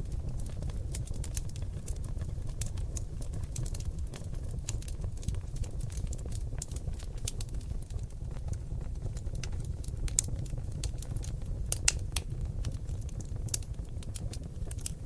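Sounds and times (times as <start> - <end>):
fire crackling and popping: 0.0 - 15.0
flames rumbling in fireplace: 0.0 - 15.0.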